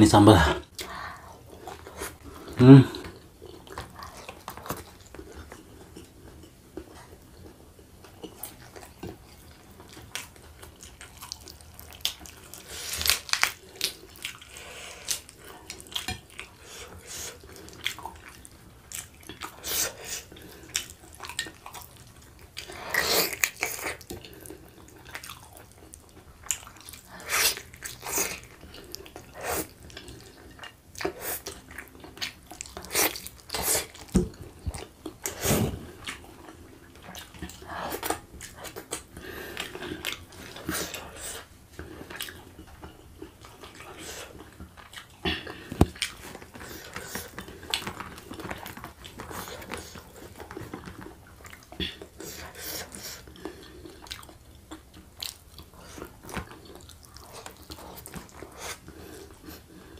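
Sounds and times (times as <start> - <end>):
wet chewing and lip-smacking: 0.6 - 59.9.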